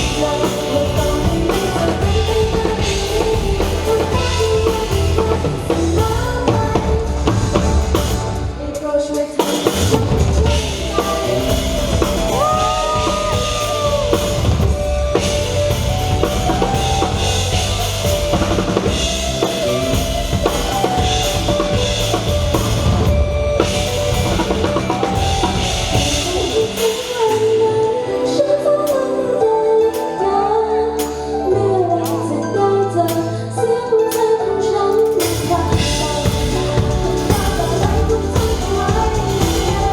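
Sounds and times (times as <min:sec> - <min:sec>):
pop song over pa system: 0:00.0 - 0:39.9.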